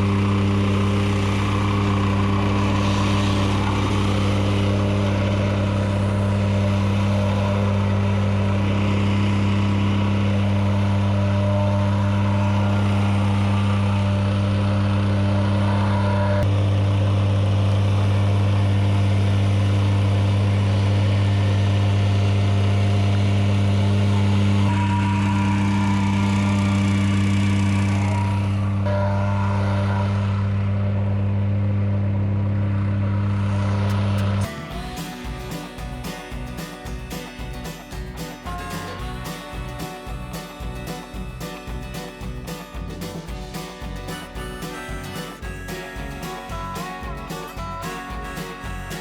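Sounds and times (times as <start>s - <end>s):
plate compactor engine vibrating gravel: 0.0s - 30.4s, 33.8s - 49.0s.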